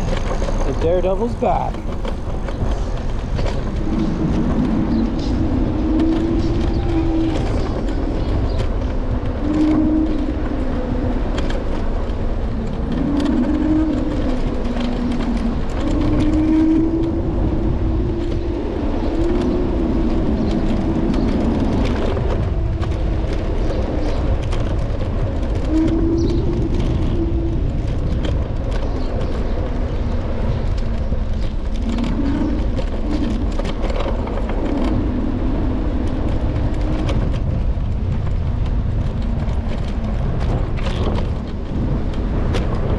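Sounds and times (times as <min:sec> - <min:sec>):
scooter road rumble: 0:00.0 - 0:42.9.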